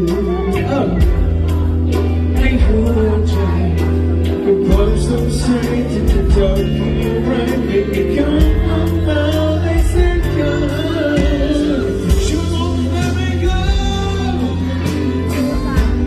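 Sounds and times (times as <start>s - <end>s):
band playing: 0.0s - 16.0s
bass line: 0.0s - 16.0s
man singing into microphone: 0.0s - 16.0s.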